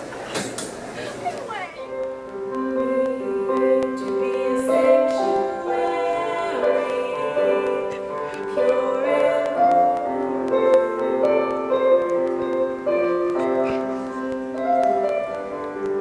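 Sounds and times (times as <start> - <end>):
slow melodic background music: 1.7 - 16.0.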